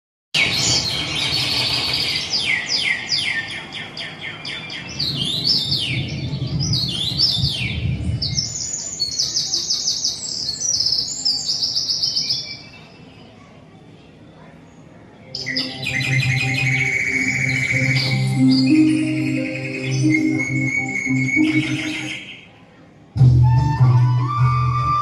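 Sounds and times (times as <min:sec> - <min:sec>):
birds singing trills and chirps: 0:00.4 - 0:13.4, 0:14.7 - 0:22.6.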